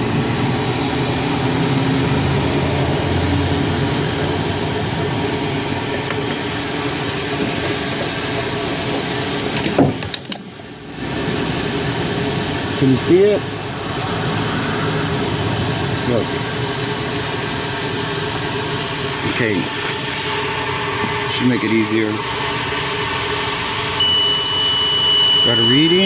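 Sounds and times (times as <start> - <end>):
mechanical hum and whir: 0.0 - 26.0.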